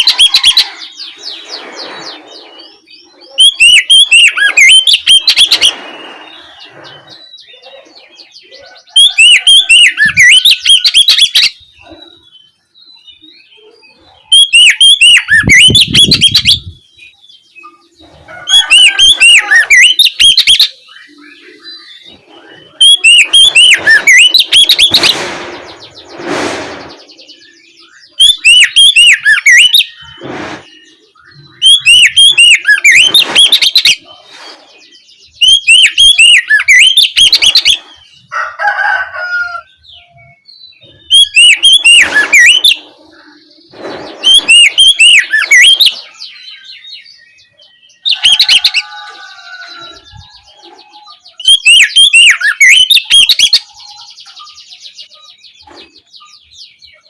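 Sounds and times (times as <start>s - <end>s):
bird singing sharp chirps: 0.0s - 38.3s, 39.7s - 57.0s.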